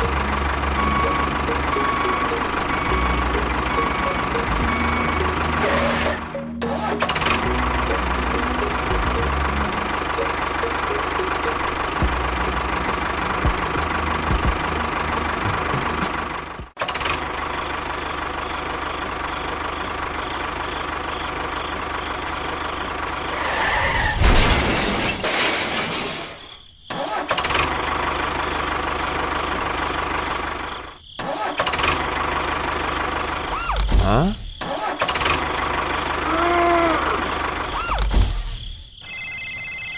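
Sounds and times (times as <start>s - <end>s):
engine-like running sound: 0.0s - 23.6s, 27.5s - 31.0s, 31.6s - 38.9s.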